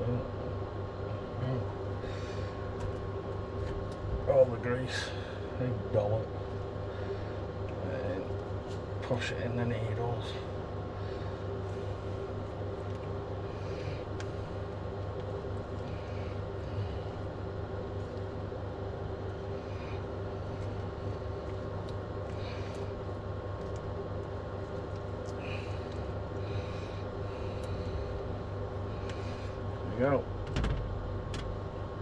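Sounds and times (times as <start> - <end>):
steady machine hum: 0.0 - 32.0
faint handling ticks and rustles: 1.4 - 30.3.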